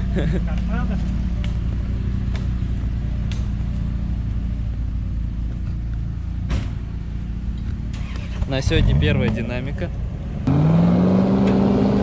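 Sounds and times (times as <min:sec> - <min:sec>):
vehicle engine idling: 0:00.0 - 0:10.6.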